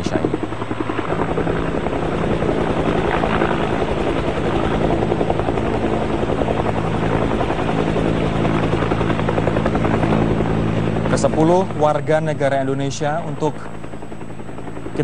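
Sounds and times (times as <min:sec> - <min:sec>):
helicopter engine hum: 0:00.0 - 0:15.0
helicopter rotor beats: 0:00.0 - 0:15.0.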